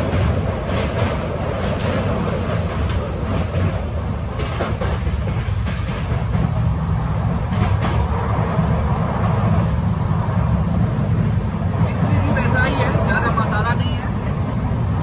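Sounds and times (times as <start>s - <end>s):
train coach low rumble: 0.0s - 15.0s.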